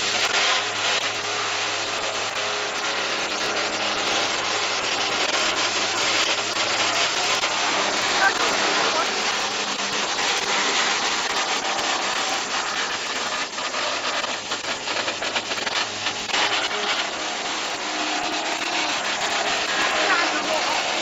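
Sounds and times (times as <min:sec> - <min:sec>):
wood crusher grinding branches: 0:00.0 - 0:21.0.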